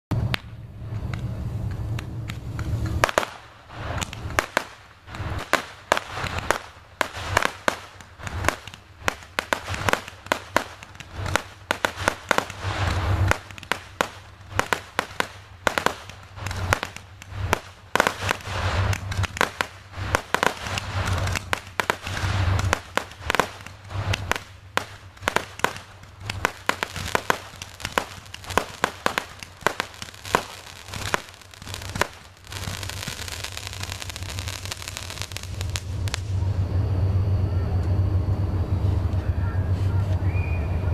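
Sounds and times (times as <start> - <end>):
firecrackers banging and popping: 0.1 - 36.4
fireworks crackling: 0.1 - 36.6
deep firework booms: 2.9 - 36.6.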